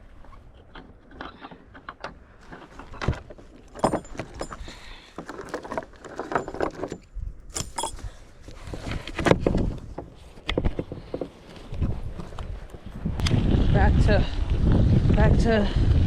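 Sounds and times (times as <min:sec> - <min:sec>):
bicycle rattling over rough path: 0:00.0 - 0:16.0.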